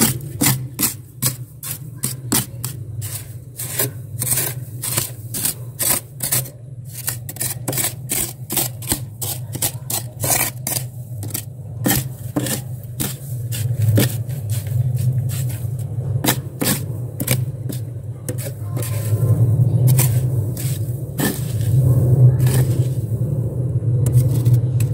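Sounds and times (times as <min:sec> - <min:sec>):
glass scraping freezer frost: 0:00.0 - 0:23.2, 0:24.0 - 0:24.9
steady low hum: 0:00.0 - 0:24.9.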